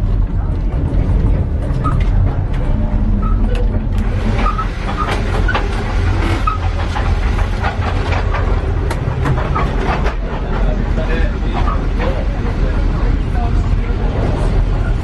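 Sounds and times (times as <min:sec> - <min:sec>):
train wheels rumbling on rails: 0:00.0 - 0:15.0
train carriage fittings rattling: 0:00.4 - 0:15.0.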